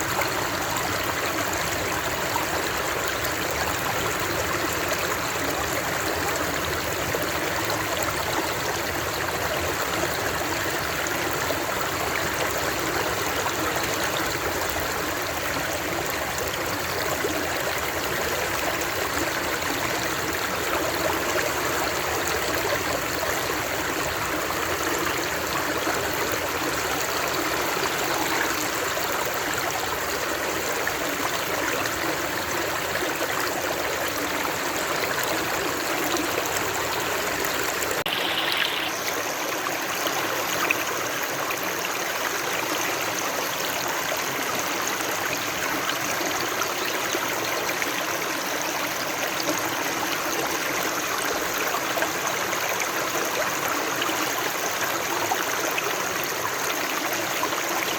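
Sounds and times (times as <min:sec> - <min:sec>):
rushing flowing water: 0:00.0 - 0:57.9.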